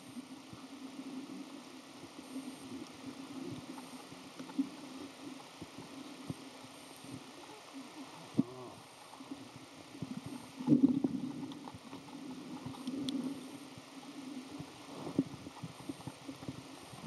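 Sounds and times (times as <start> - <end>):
underwater water sloshing: 0.4 - 17.0.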